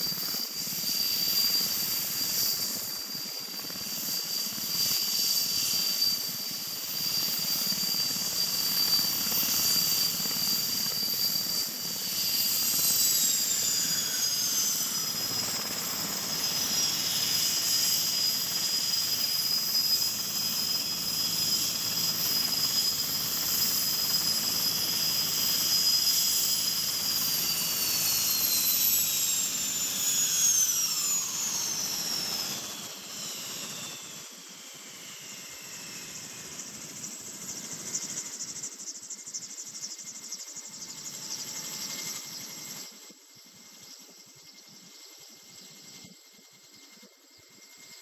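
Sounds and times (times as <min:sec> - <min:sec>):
helicopter turbines whining down: 0:00.0 - 0:48.0.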